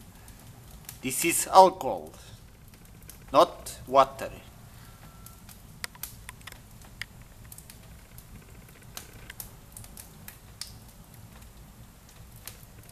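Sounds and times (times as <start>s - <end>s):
wood fire crackling: 0.0s - 12.9s.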